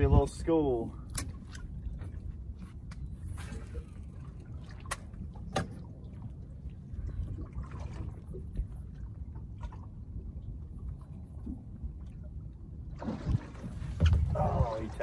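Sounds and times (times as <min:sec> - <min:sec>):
steady low rumble: 0:00.0 - 0:15.0
water lapping against boat hull: 0:00.0 - 0:15.0.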